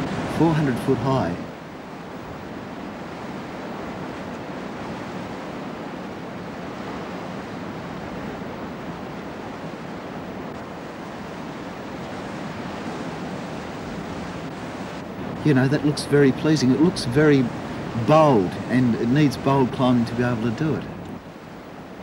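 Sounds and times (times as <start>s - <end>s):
waves breaking: 0.0s - 22.0s
wind: 0.0s - 22.0s.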